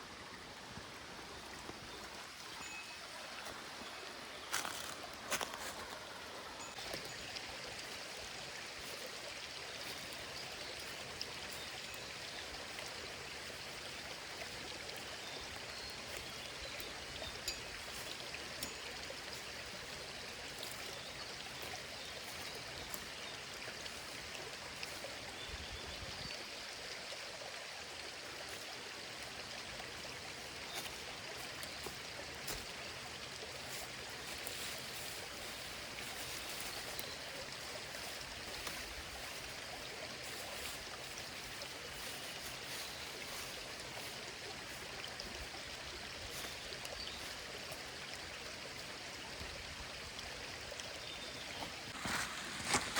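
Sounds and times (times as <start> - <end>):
small stream running: 0.0 - 52.9.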